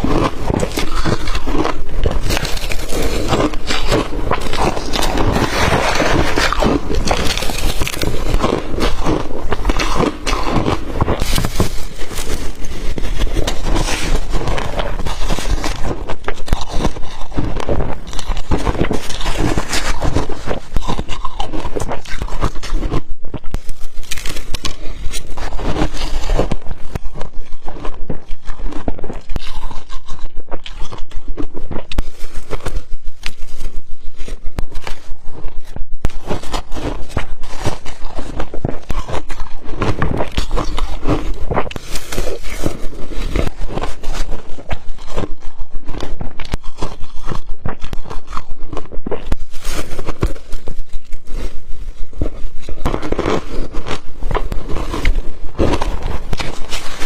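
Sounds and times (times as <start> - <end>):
person chewing crushed ice: 0.0 - 57.0.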